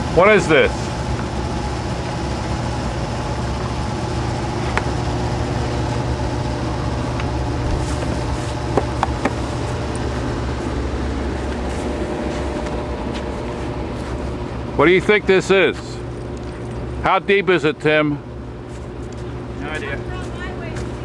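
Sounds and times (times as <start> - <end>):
motor idling hum: 0.0 - 21.0.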